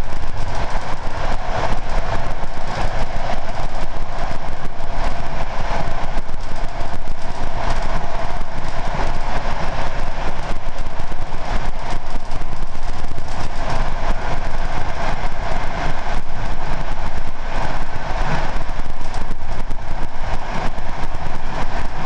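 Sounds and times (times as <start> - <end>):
train carriage rattling: 0.0 - 22.0
train wheels on rail: 0.0 - 22.0.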